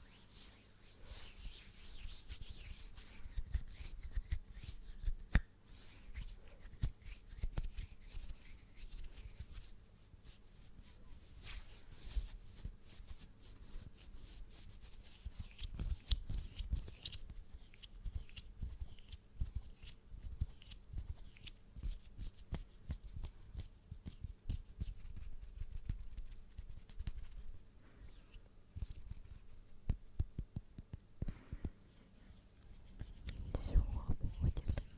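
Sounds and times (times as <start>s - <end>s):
skin rubbing and rustling: 0.0s - 30.2s, 31.9s - 34.9s.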